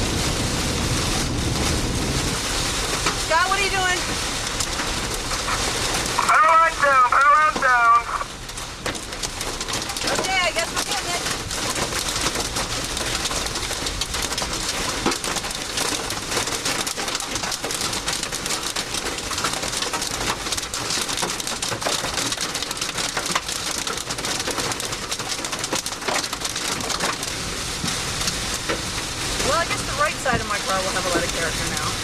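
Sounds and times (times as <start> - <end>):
hailstones pelting a car: 0.0 - 32.0.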